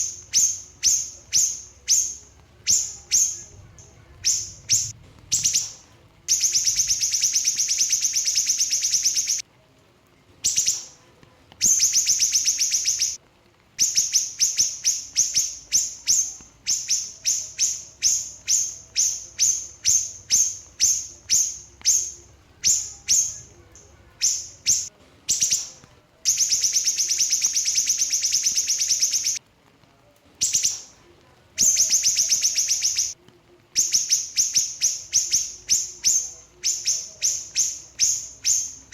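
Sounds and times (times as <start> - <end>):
songbird trilling and chirping: 0.0 - 9.4, 10.4 - 11.0, 11.6 - 13.2, 13.8 - 29.4, 30.4 - 31.0, 31.6 - 33.2, 33.8 - 38.9.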